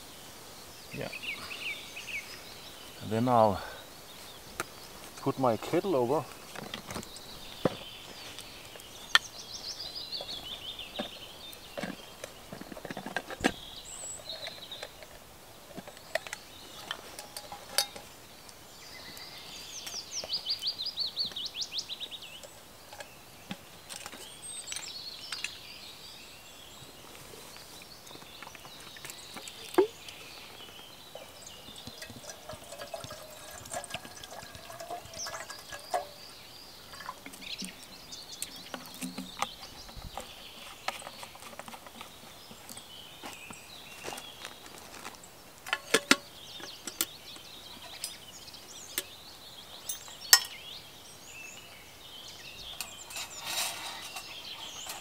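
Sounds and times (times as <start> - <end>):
woodland birdsong: 0.0 - 55.0.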